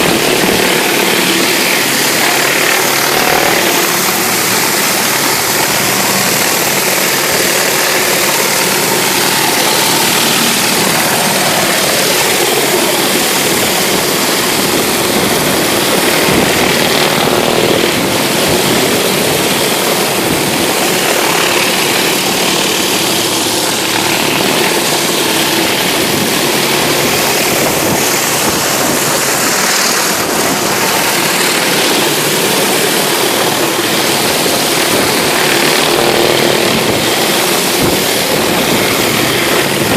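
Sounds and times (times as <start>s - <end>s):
high-pressure water spray on concrete: 0.0s - 39.9s
pressure washer engine running: 0.0s - 39.9s.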